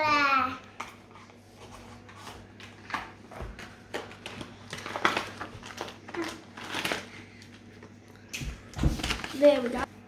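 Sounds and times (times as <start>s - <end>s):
paper handling rustles: 0.8s - 9.9s.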